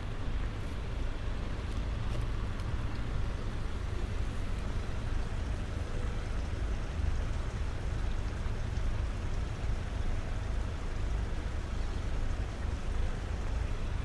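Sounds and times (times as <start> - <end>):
city traffic rumble: 0.0 - 14.0
light rain on wet paving: 0.0 - 14.0.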